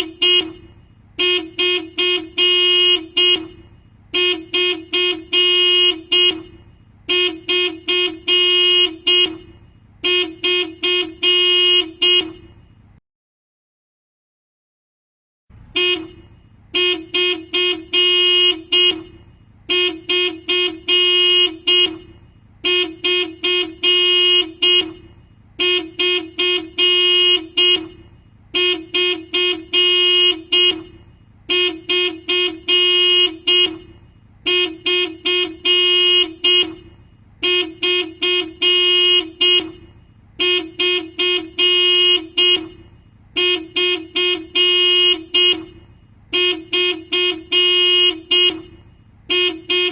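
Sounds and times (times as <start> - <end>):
car horn honking in bursts: 0.0 - 13.0, 15.5 - 49.9.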